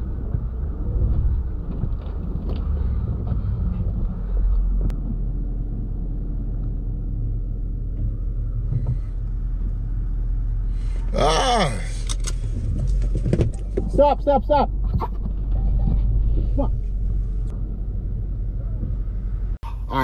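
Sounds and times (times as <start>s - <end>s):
car cabin rumble on snow: 0.0s - 19.6s.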